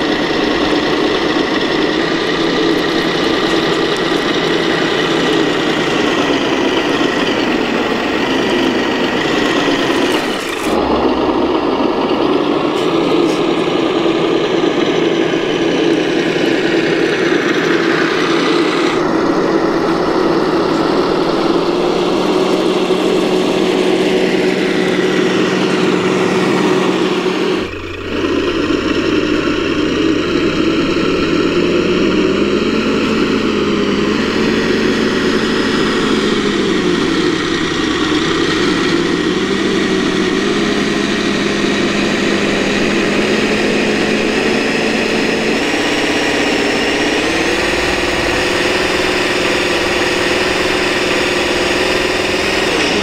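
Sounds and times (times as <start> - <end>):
simulated diesel engine from speaker: 0.0 - 53.0.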